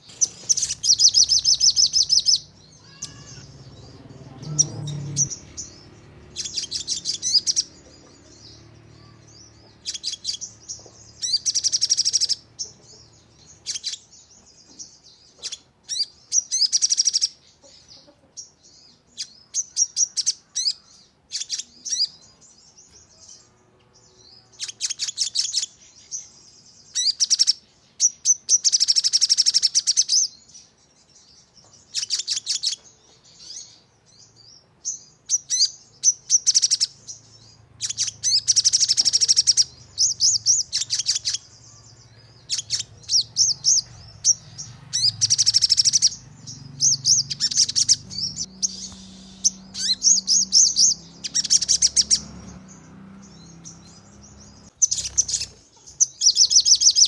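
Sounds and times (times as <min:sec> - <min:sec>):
songbird singing rapid bursts: 0:00.0 - 0:17.8, 0:18.4 - 0:57.0.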